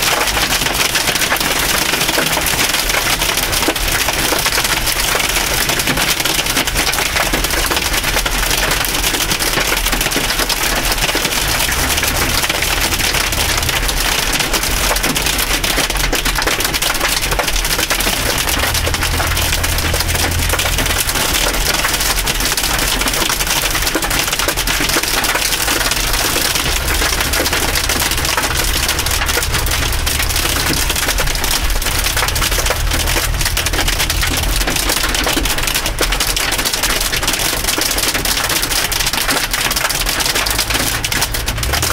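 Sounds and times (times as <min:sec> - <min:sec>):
hail and rain on car roof: 0:00.0 - 0:41.9.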